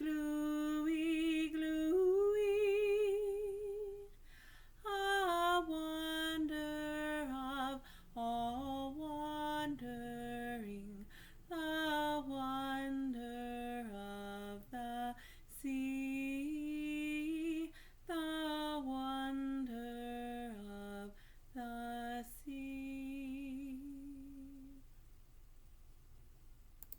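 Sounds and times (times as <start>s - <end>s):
woman singing unaccompanied: 0.0s - 4.2s, 4.8s - 24.9s.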